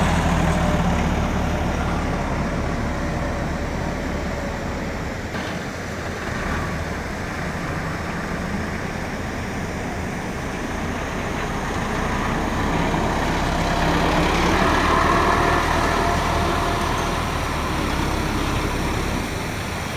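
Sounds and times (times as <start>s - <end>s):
diesel tractor engine chugging: 0.0s - 19.9s.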